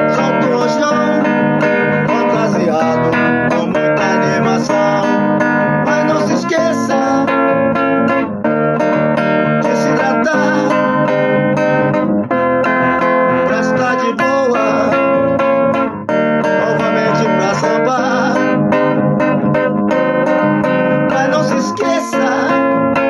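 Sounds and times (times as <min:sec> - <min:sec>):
instrumental guitar music: 0:00.0 - 0:23.0.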